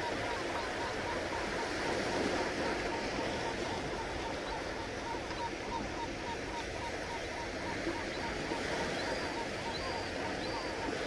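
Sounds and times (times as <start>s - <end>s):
waves washing onto beach: 0.0s - 11.0s.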